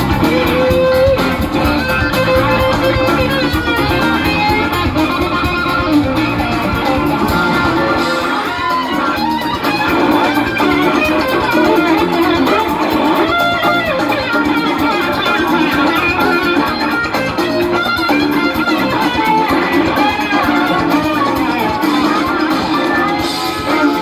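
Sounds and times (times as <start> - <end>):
lead guitar bent notes: 0.0 - 24.0
live rock band playing: 0.0 - 24.0.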